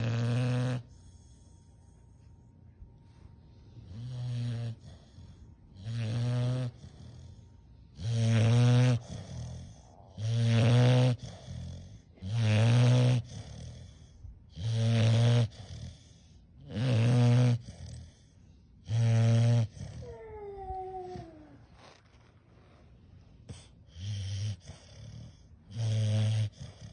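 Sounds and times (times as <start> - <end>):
dog snoring: 0.0 - 2.5, 3.5 - 26.9.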